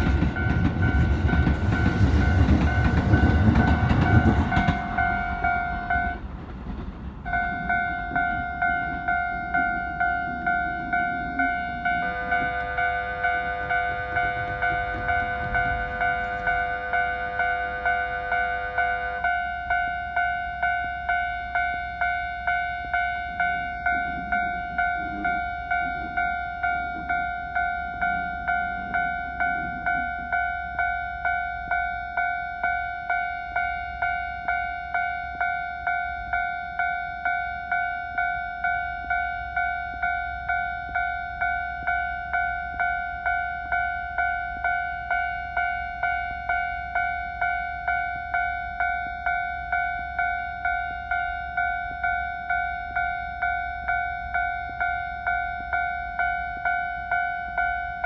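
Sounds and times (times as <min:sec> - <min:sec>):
level-crossing alarm bell: 0:00.0 - 0:06.4, 0:07.2 - 0:58.0.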